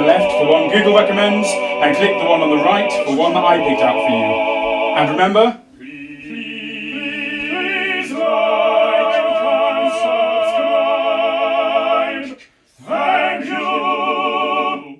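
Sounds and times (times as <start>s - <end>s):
man singing operatic notes: 0.0s - 13.6s.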